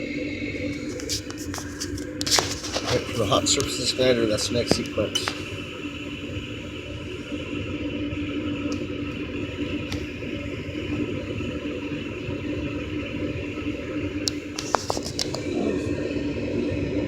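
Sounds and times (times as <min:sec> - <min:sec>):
furnace motor humming: 0:00.0 - 0:17.0.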